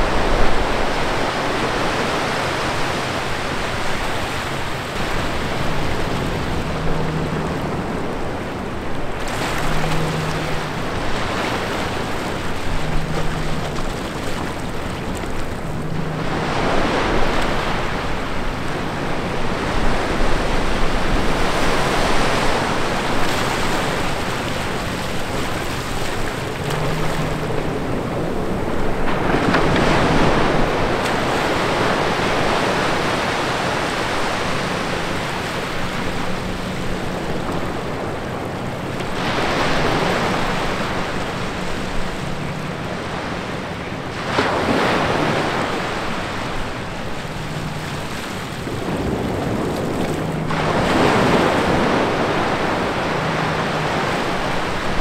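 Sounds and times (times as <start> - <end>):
small waves washing over sand: 0.0 - 55.0.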